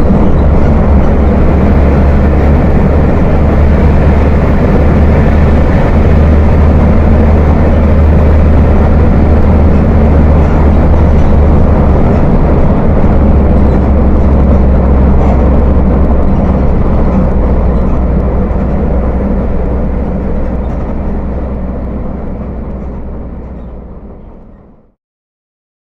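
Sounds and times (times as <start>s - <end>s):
diesel bus engine rumbling: 0.0s - 25.0s.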